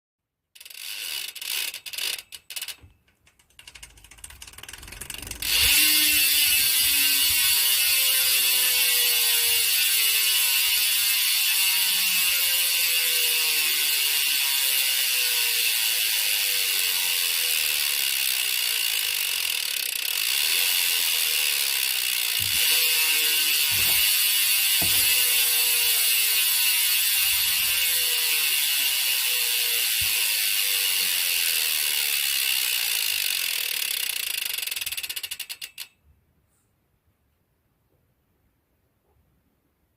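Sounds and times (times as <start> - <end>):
bicycle hub freewheel ratcheting: 0.6 - 36.0.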